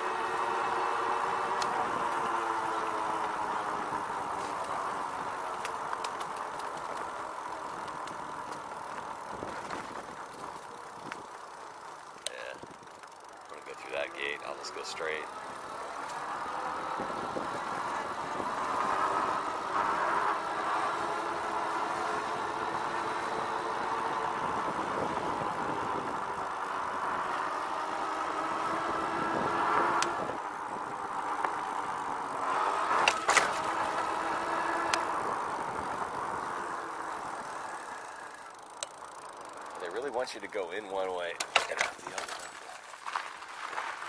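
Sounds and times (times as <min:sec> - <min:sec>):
electric bike motor whining hum: 0:00.0 - 0:41.2.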